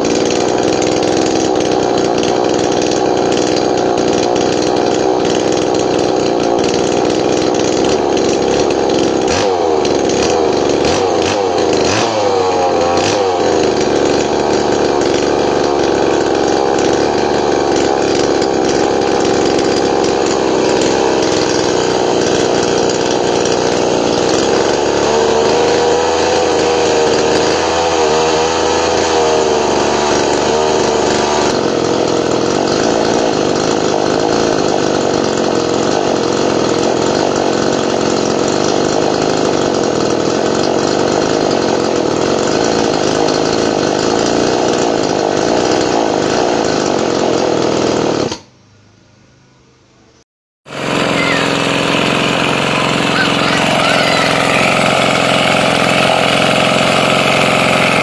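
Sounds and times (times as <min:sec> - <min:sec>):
small two-stroke engine running: 0:00.0 - 0:48.5, 0:50.7 - 0:58.0.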